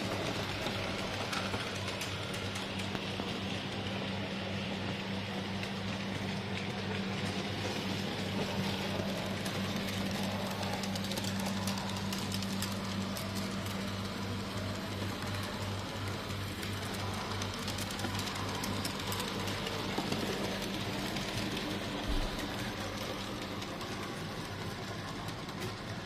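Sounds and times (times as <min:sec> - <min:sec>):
model train motor hum: 0:00.0 - 0:26.0.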